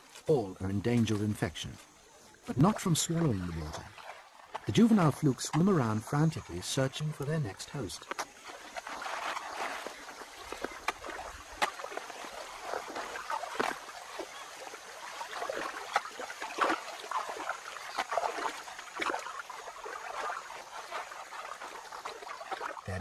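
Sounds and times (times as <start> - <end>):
water sloshing: 0.0 - 23.0
sharp water splashes: 1.2 - 23.0.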